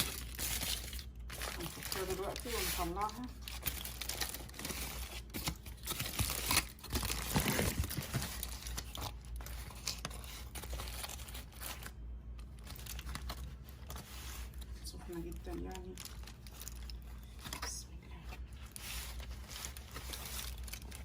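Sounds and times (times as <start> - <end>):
crinkly wrapping rustling and tearing: 0.0 - 21.0.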